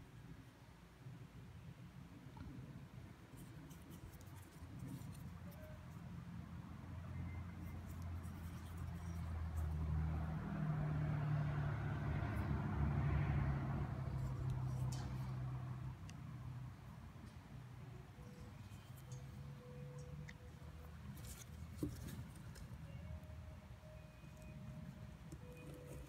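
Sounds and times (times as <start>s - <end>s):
vehicle engine hum: 2.6s - 26.0s.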